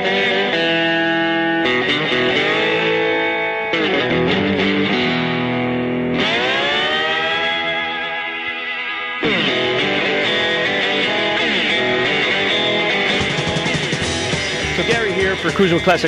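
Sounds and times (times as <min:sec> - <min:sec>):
guitar playing long held notes: 0:00.0 - 0:16.0.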